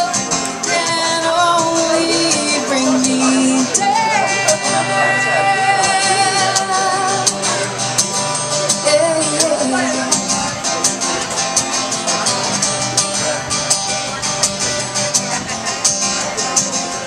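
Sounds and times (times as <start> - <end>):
guitar: 0.0 - 17.0
live band playing: 0.0 - 17.0.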